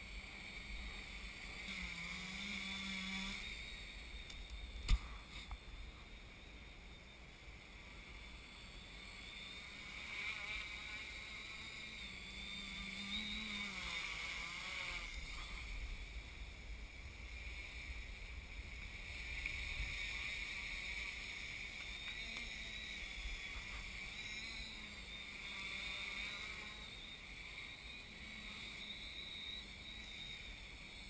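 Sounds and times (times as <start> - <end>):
quadcopter propellers buzzing: 0.0 - 31.0.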